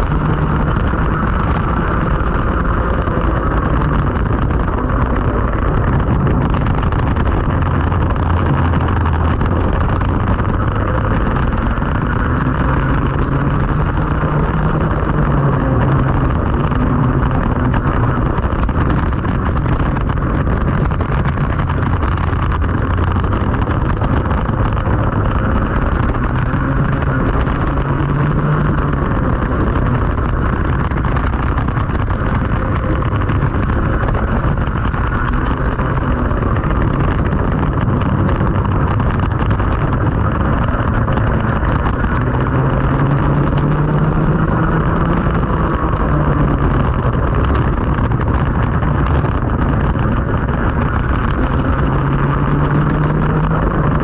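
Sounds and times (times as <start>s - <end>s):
racing kart engine accelerating: 0.0s - 54.0s
wind noise on microphone: 0.0s - 54.0s.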